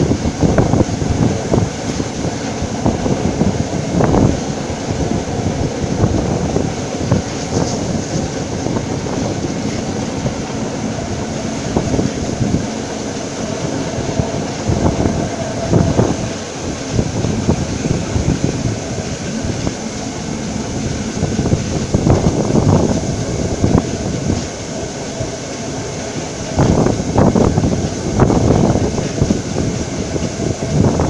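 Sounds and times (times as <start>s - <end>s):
train wheels clicking on rails: 0.0s - 31.0s
wind rushing past: 0.0s - 31.0s.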